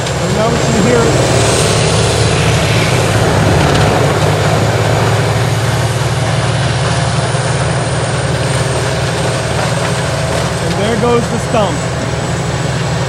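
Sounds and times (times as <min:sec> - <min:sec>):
dense steady grinding: 0:00.0 - 0:13.0
grinder engine running hard: 0:00.0 - 0:13.0.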